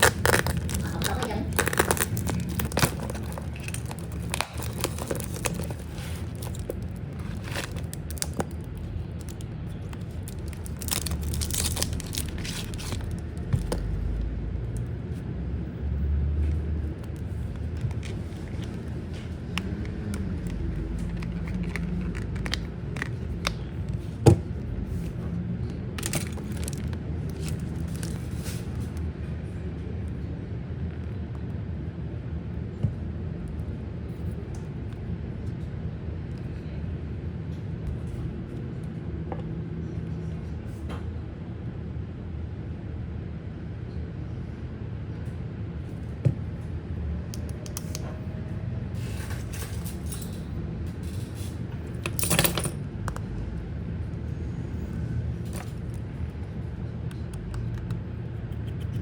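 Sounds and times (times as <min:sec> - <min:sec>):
low background rumble: 0:00.0 - 0:59.0.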